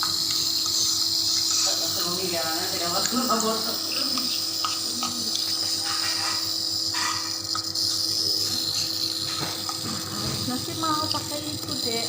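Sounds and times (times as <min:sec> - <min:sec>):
nebulizer humming and hissing: 0:00.0 - 0:12.0.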